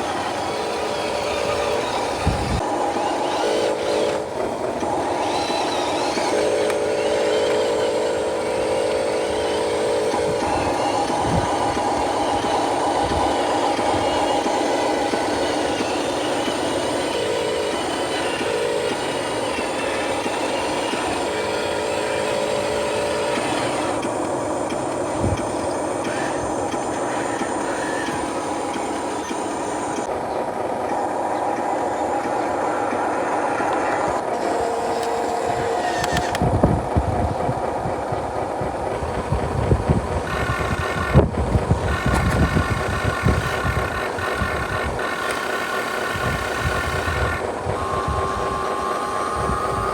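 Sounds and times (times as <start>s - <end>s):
radio-controlled truck motor whir: 0.0s - 49.9s.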